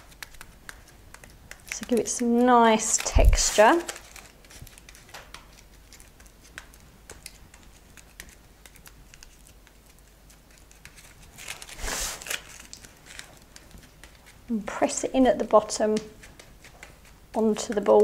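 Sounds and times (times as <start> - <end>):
foil crinkling rustle: 0.0 - 14.5
foil taps and crinkles: 0.0 - 18.0.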